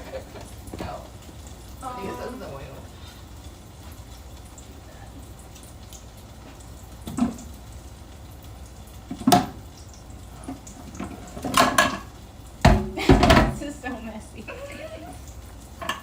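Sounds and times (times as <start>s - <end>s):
hot oil bubbling and crackling: 0.0s - 16.0s.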